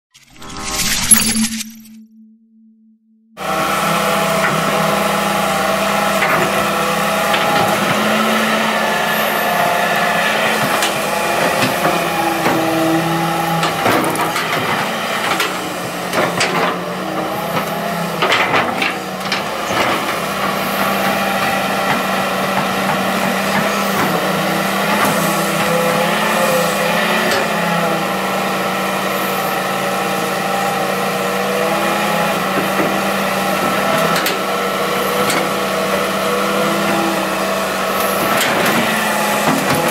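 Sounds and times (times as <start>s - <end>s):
excavator diesel engine running: 3.4s - 39.9s.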